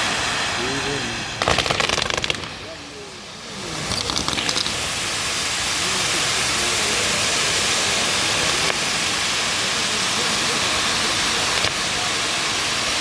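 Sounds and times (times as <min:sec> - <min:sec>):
fireworks crackling: 0:00.0 - 0:13.0
fireworks hissing: 0:00.0 - 0:13.0
faint crowd voices: 0:00.5 - 0:13.0.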